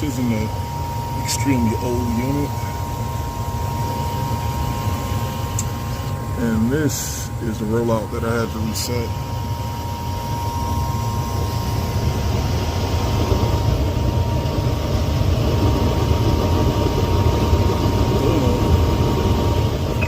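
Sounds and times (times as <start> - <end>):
burners sputtering: 0.0 - 20.0
gas furnace burner rumble: 0.0 - 20.0
thin steady whine: 0.0 - 20.0.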